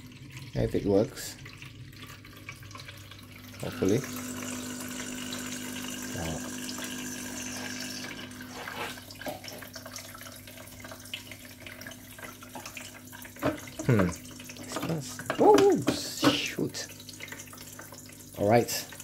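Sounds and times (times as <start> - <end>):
electric pump humming: 0.0 - 19.0
water pouring into reservoir: 0.0 - 19.0
water trickling and dripping: 0.0 - 19.0.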